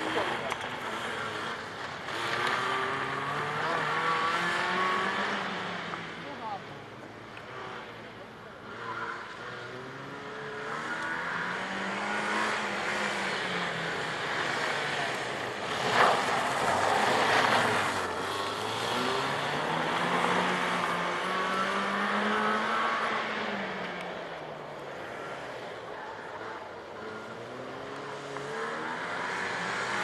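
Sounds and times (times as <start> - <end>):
car engine revving: 0.0 - 6.5, 7.2 - 30.0.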